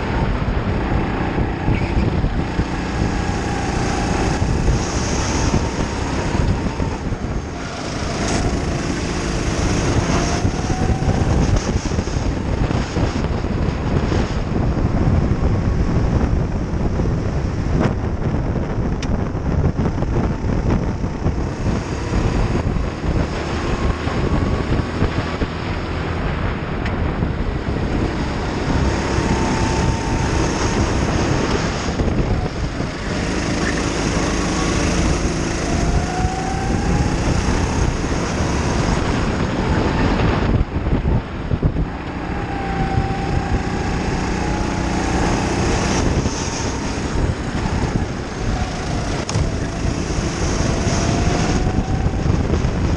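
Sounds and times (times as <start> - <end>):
go-kart engine revving: 0.0 - 52.9
wind buffeting microphone: 0.0 - 52.9.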